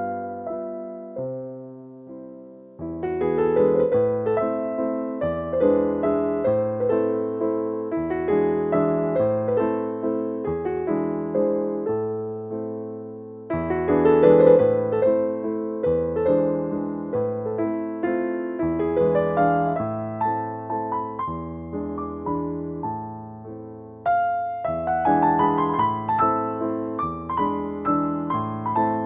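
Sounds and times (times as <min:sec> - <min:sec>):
slow piano piece: 0:00.0 - 0:29.0.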